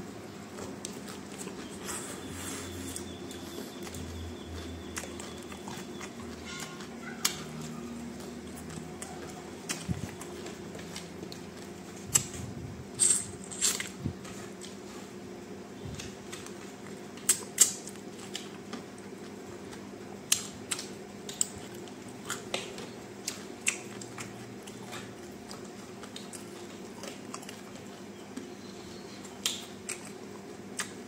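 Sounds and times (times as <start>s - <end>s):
steady low hum: 0.0s - 31.0s
man chewing: 0.4s - 12.6s, 13.5s - 15.3s, 16.0s - 31.0s.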